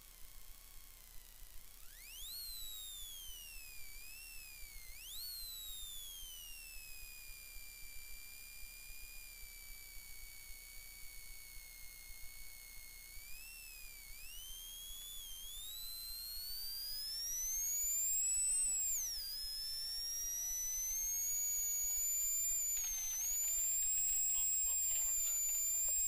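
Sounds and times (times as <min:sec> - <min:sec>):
electrical whine rising in pitch: 0:01.1 - 0:26.0.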